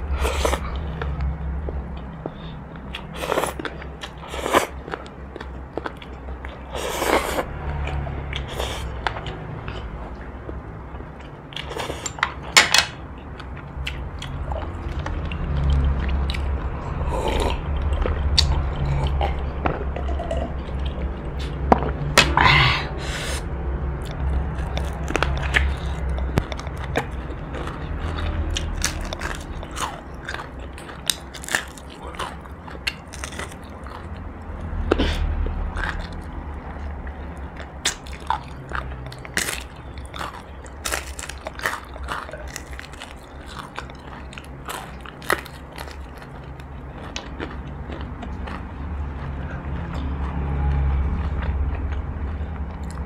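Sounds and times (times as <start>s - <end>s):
chewing and crunching: 0.0s - 22.7s, 23.3s - 53.0s
steady low hum: 0.0s - 53.0s.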